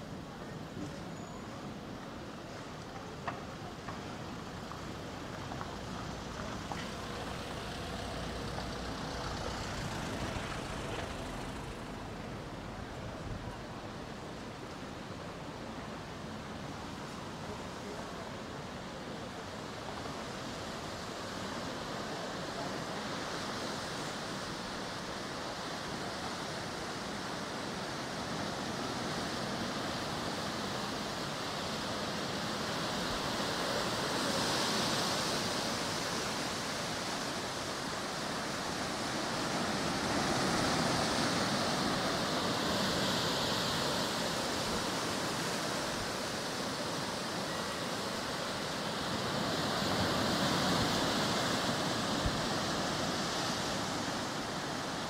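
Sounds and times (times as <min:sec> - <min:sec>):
ocean surf washing ashore: 0:00.0 - 0:55.0.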